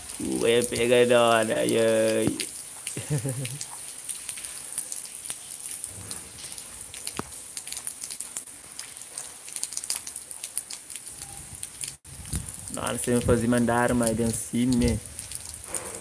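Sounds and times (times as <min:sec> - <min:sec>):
heavy rain falling: 0:00.0 - 0:16.0
raindrops ticking on hard surfaces: 0:00.0 - 0:16.0.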